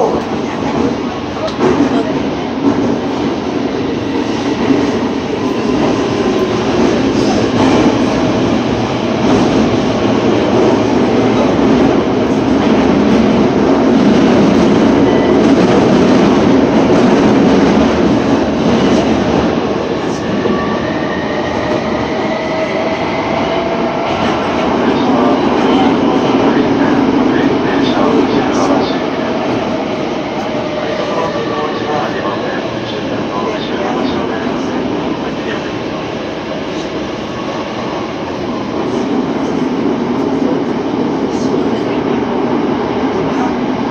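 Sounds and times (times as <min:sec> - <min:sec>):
subway train wheels rumbling: 0:00.0 - 0:43.9.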